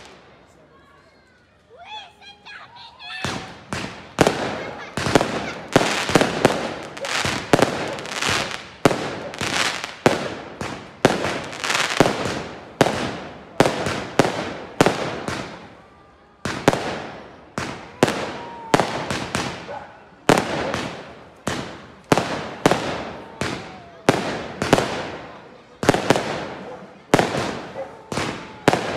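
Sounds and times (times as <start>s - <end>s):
fireworks bangs: 0.0s - 0.4s, 2.7s - 28.9s.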